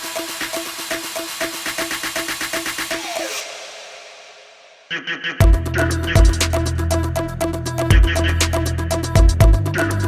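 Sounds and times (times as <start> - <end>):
electronic dance music: 0.0 - 4.8, 5.4 - 10.0.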